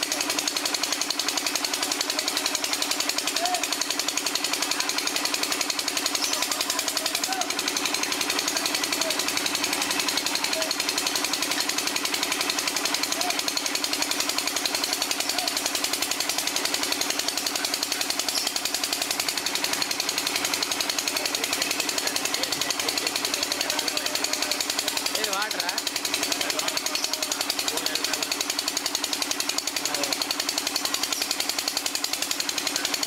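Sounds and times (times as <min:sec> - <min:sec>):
drilling machine hammering: 0:00.0 - 0:33.0.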